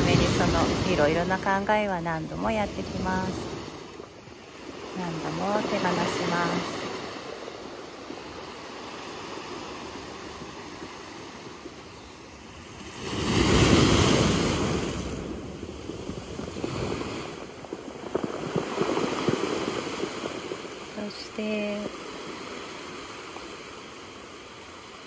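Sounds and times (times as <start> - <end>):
big wave crashing: 0.0 - 23.3
waves washing on cobble shore: 0.0 - 25.0.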